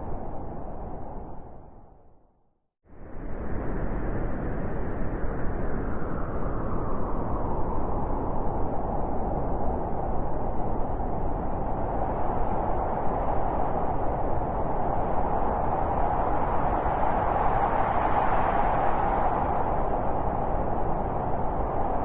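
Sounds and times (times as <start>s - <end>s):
steady wind rushing: 2.9s - 22.0s.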